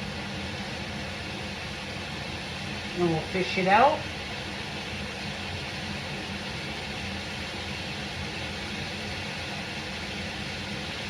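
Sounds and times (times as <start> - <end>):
wine simmering in a pot: 0.0 - 11.0.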